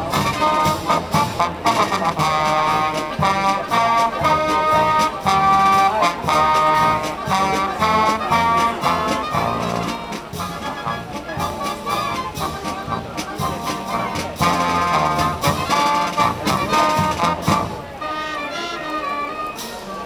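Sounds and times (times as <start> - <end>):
military brass band playing: 0.0 - 20.0.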